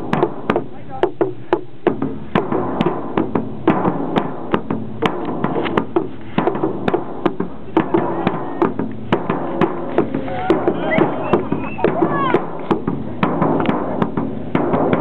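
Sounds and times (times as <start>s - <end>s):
steady percussive drum beat: 0.0s - 15.0s.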